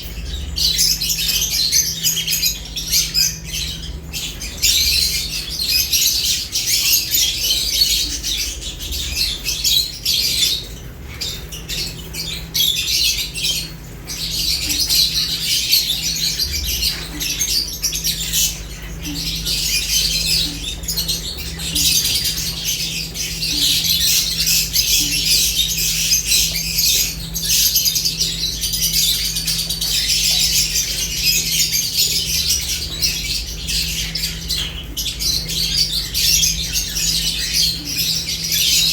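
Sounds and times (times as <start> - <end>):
lovebirds chirping and chattering: 0.0 - 38.9.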